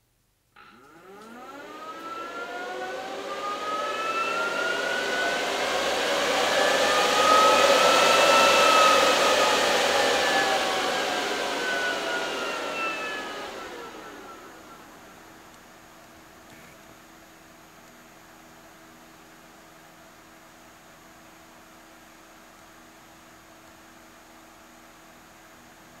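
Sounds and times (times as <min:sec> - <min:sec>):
cooling fans whining: 0:00.6 - 0:25.6.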